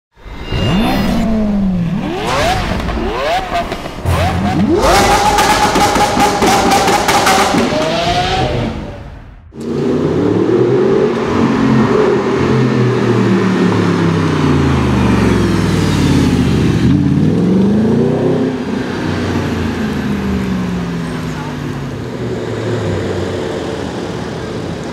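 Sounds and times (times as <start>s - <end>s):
car engine revving: 0.5s - 24.7s.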